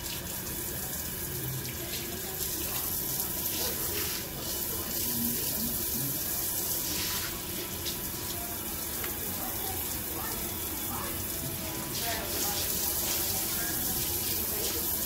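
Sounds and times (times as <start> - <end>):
water rushing into tiled tub: 0.0 - 15.0.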